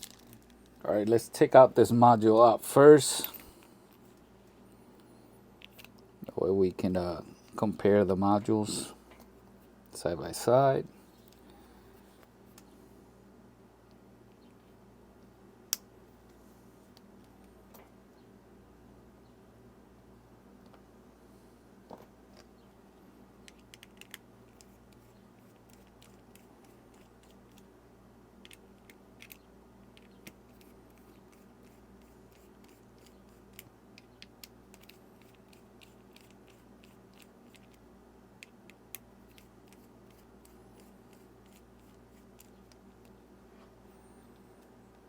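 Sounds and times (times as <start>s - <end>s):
low room hum: 0.0s - 45.0s.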